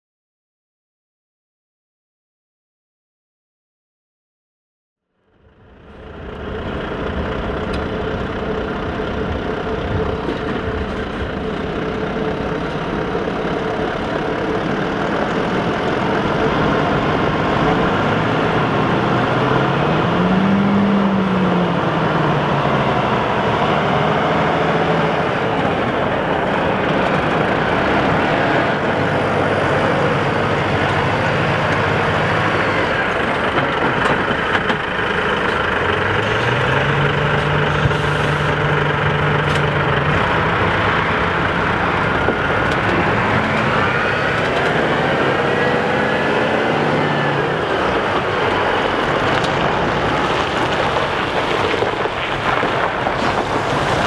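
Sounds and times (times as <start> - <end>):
diesel truck engine pulling away: 5.3 - 54.0.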